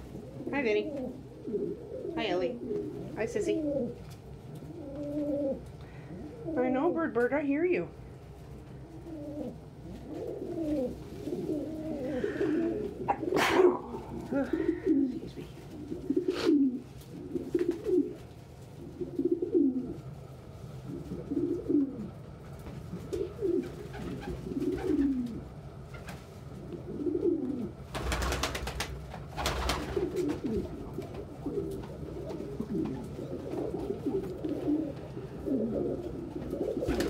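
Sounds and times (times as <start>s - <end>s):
pigeons cooing: 0.0s - 7.1s, 8.0s - 37.0s.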